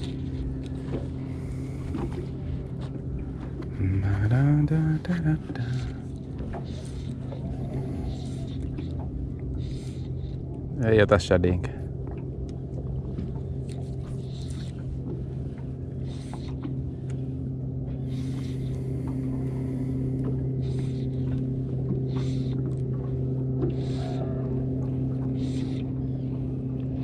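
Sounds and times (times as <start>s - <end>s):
electric trolling motor humming: 0.0s - 27.0s.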